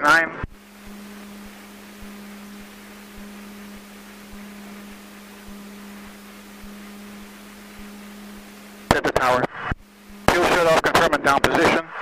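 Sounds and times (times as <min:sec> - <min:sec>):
airplane engine idling: 0:00.5 - 0:11.5.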